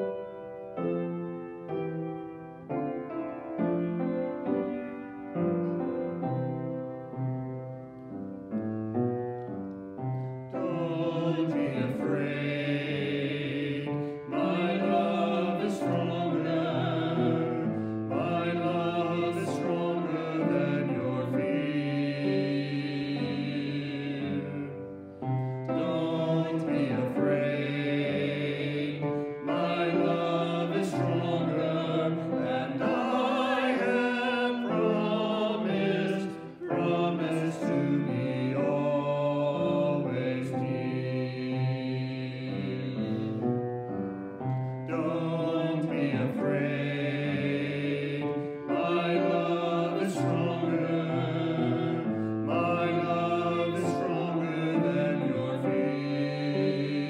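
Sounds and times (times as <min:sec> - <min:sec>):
voices singing a hymn: 0:00.0 - 0:07.3, 0:09.4 - 0:57.0
grand piano accompaniment: 0:00.0 - 0:57.0.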